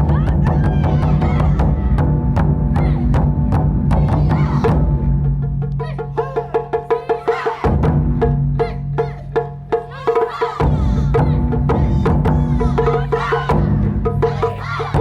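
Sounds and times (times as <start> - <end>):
deep heavy drum beats: 0.0 - 15.0.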